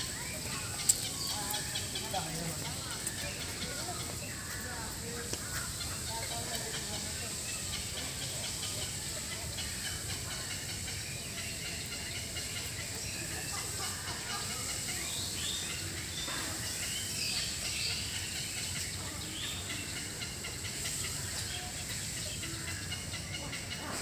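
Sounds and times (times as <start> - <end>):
small birds chirping: 0.0 - 24.0
steady high hiss: 0.0 - 24.0.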